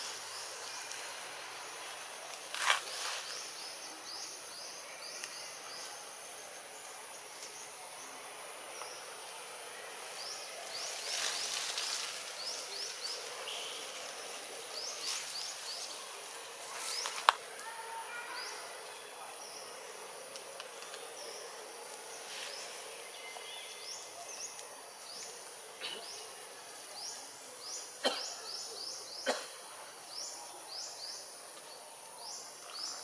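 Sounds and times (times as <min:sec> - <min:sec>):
birds chirping: 0:00.0 - 0:33.0
high insect drone: 0:00.0 - 0:33.0.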